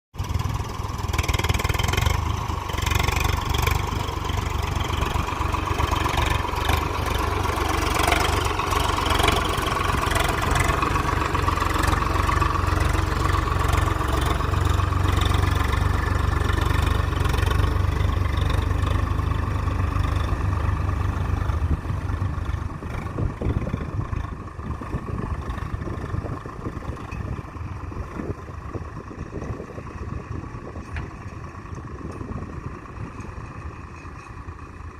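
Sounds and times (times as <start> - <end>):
heavy diesel engine running: 0.2 - 34.9.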